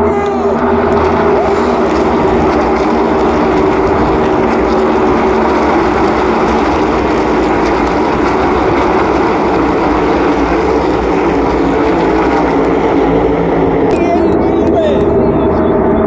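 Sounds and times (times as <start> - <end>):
race car engines roaring: 0.0 - 16.0.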